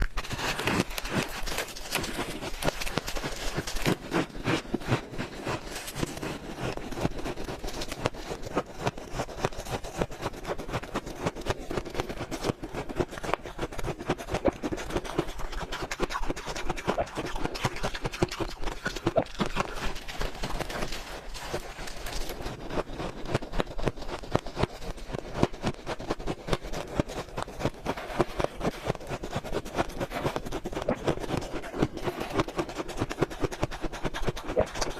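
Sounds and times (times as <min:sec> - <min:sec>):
chewing crunchy shaved ice: 0:00.0 - 0:34.9.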